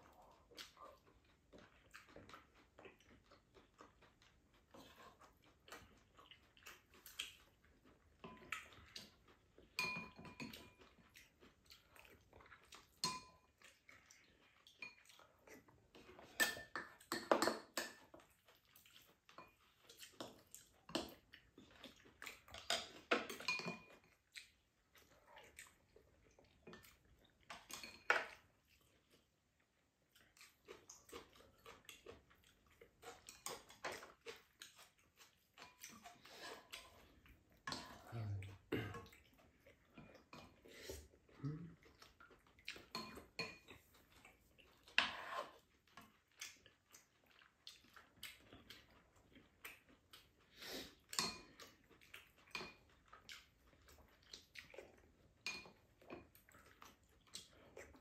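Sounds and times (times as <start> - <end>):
people chewing: 0.0 - 58.0.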